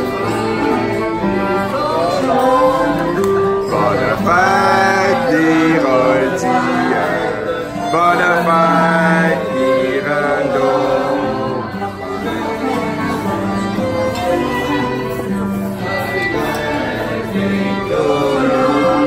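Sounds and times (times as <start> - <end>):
acoustic guitar: 0.0 - 19.0
cello: 0.0 - 19.0
clarinet: 0.0 - 19.0
violin: 0.0 - 19.0.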